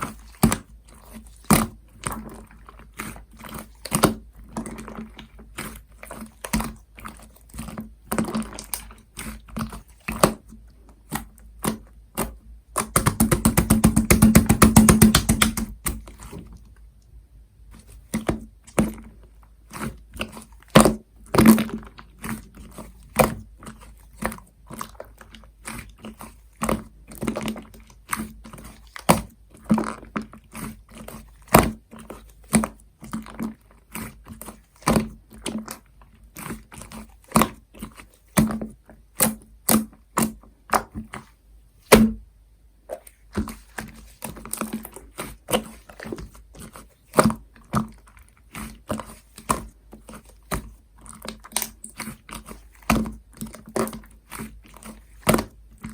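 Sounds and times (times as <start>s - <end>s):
slime squished by hand: 0.0s - 16.7s, 17.7s - 42.2s, 42.9s - 55.9s.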